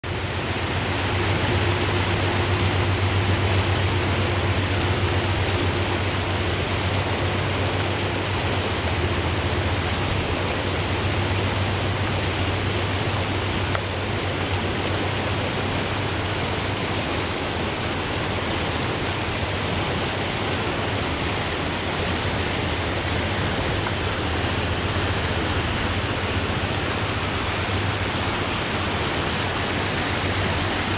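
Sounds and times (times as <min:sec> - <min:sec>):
river water rushing over rocks: 0:00.0 - 0:30.9.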